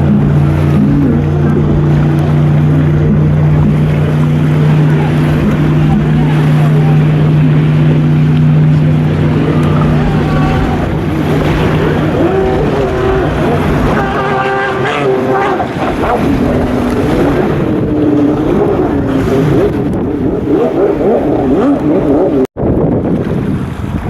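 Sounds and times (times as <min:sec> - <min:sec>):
jet ski engines running: 0:00.0 - 0:24.0.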